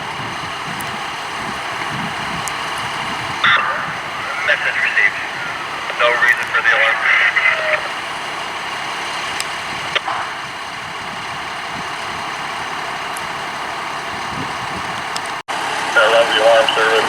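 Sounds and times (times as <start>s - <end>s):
fire engine idling: 0.0s - 17.0s.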